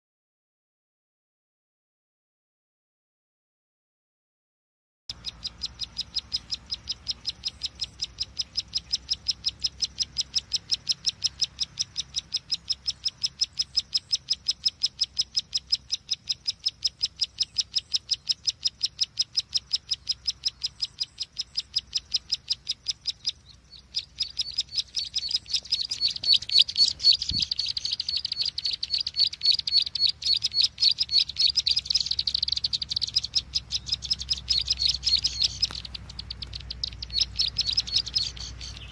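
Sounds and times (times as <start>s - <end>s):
songbird ticking trill: 5.1s - 38.9s.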